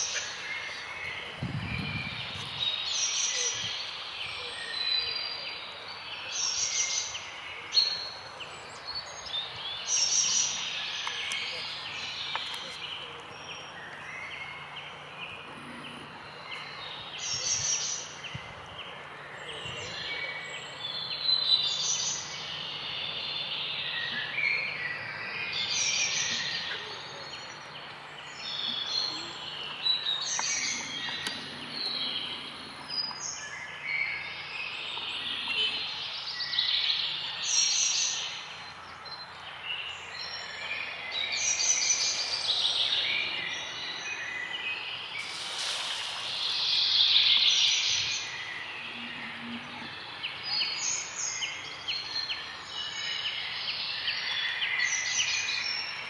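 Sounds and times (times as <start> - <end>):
faint outdoor background: 0.0 - 56.0
songbirds twittering: 0.0 - 56.0.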